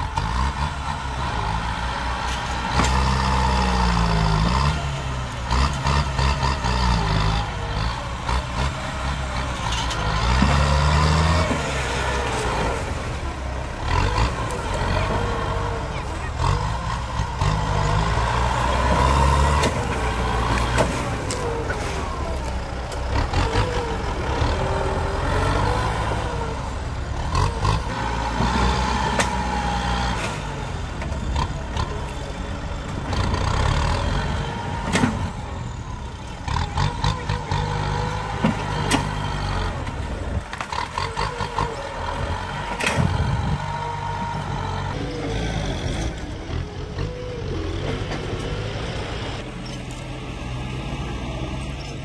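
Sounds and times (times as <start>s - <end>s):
tractor engine under load: 0.0s - 52.0s.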